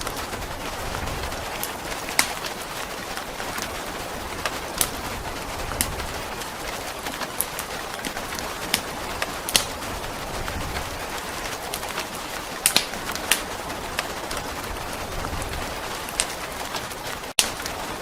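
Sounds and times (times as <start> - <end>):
rain hiss: 0.0 - 18.0
wood fire crackling: 0.0 - 18.0.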